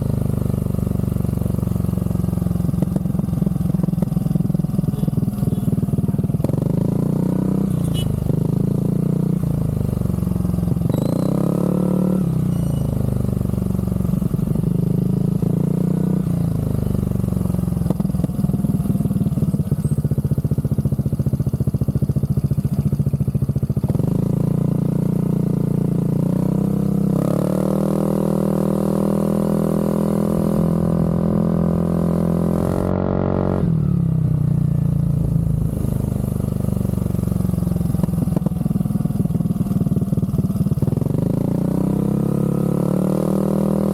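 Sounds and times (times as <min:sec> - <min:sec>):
scooter engine idling and revving: 0:00.0 - 0:43.9.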